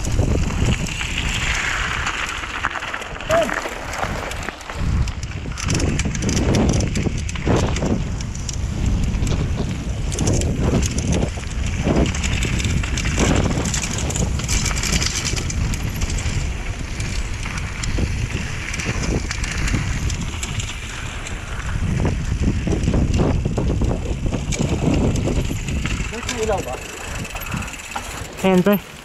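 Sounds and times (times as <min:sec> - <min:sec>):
bike rattles and knocks: 0:00.0 - 0:29.0
tyres rolling on dirt and stones: 0:00.0 - 0:29.0
wind rumble on microphone: 0:00.0 - 0:29.0.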